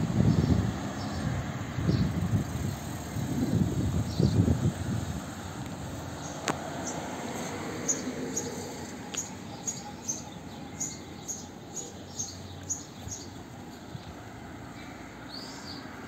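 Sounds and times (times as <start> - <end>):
street traffic hum: 0.0 - 16.0.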